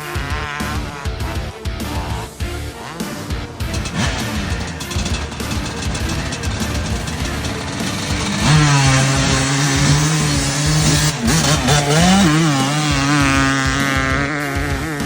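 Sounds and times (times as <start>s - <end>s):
dirt bike engine revving: 2.8s - 15.0s.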